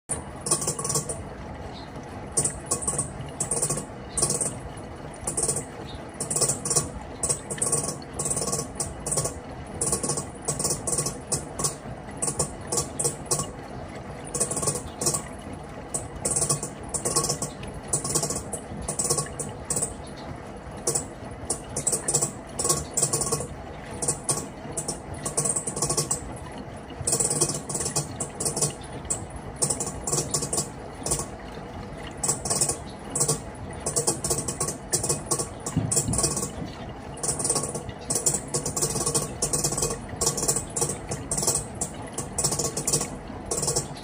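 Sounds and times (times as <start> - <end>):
washing machine humming: 0.0 - 44.0
rattling scraping inside machine: 0.1 - 44.0.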